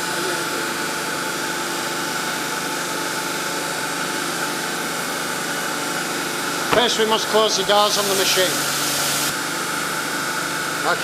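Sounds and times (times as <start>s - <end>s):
machinery hum and hiss: 0.0s - 9.4s.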